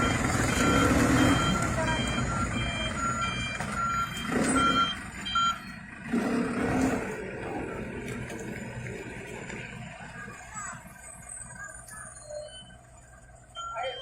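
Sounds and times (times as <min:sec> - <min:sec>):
truck reversing alarm beeping: 0:00.0 - 0:09.2, 0:09.8 - 0:14.0
diesel truck engine running: 0:00.0 - 0:14.0.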